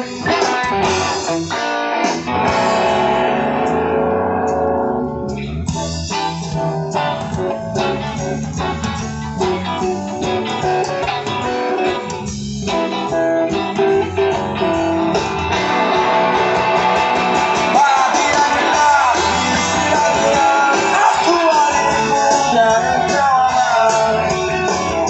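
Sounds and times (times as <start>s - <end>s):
electric guitar: 0.0s - 25.0s
rock band playing: 0.0s - 25.0s.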